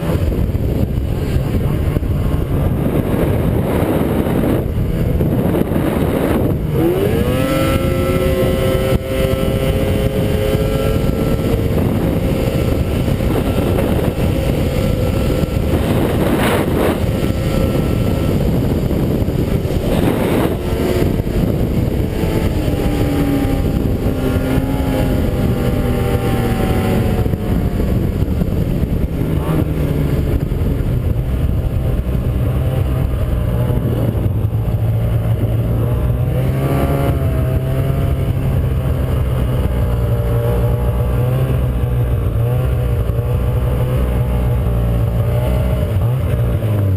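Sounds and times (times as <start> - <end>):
snowmobile engine revving: 0.0 - 46.9.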